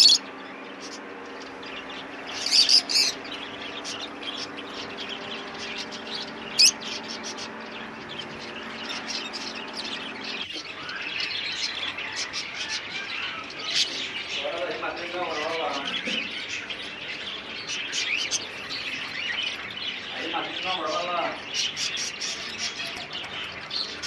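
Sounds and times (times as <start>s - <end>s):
caged birds chirping: 0.0s - 24.0s
sharp bird calls: 0.0s - 24.0s.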